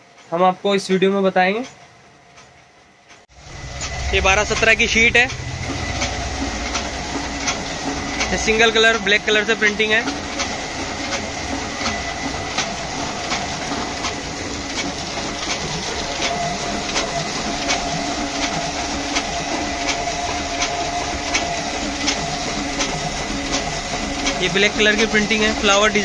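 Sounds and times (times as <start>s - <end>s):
printing press running: 3.3s - 26.0s.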